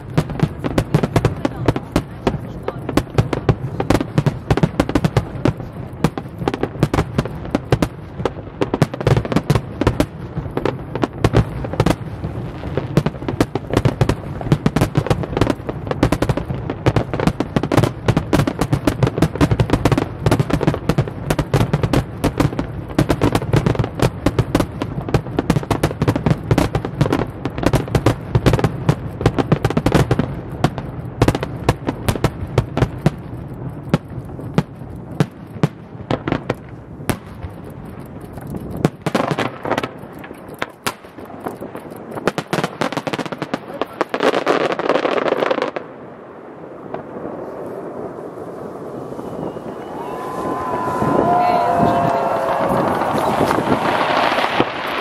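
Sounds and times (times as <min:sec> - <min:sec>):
fireworks bursts: 0:00.0 - 0:55.0.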